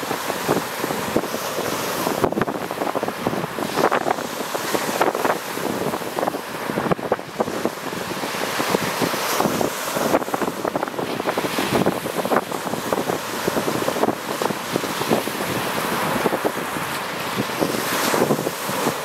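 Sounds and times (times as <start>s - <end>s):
waves breaking on pebbly shore: 0.0s - 19.0s
wind buffeting microphone: 0.0s - 19.0s.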